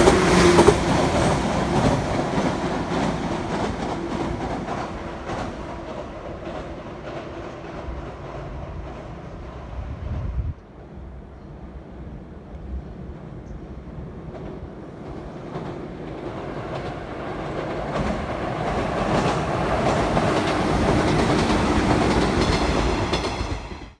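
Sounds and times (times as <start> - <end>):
electric train approaching: 0.0 - 10.2, 10.8 - 24.0.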